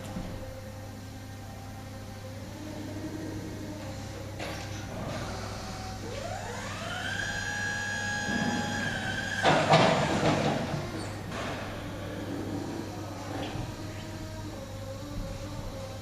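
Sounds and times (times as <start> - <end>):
electric motor whining: 2.0 - 16.0.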